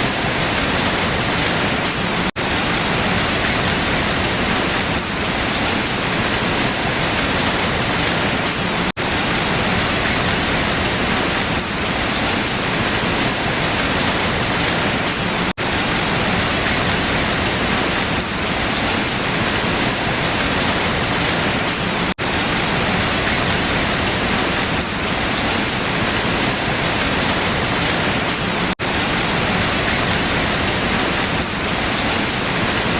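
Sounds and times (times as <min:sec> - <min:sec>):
rain falling on leaves: 0:00.0 - 0:32.9.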